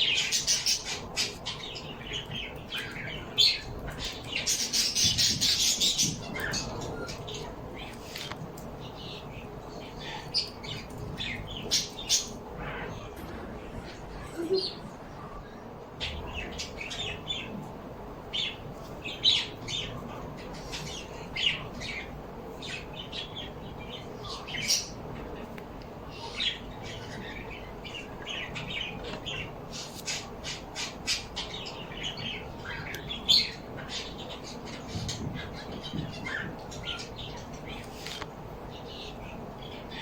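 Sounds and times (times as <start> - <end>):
birds chirping and squawking: 0.0 - 40.0.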